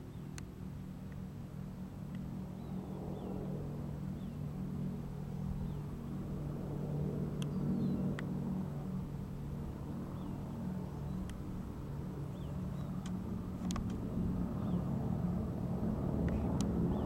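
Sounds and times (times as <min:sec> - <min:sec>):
bomber plane engines droning: 0:00.0 - 0:17.0.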